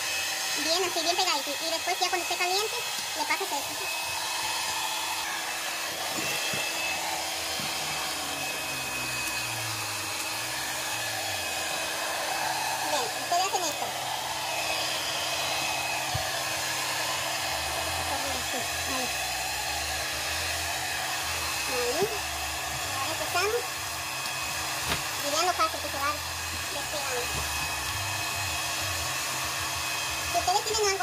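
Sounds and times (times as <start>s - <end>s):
hair dryer blowing: 0.0s - 31.0s.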